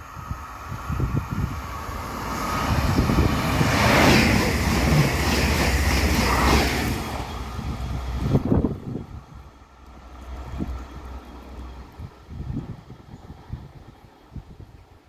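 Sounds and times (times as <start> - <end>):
train wheels rumbling on rails: 0.0 - 14.9
rush of air from passing train: 0.0 - 15.0.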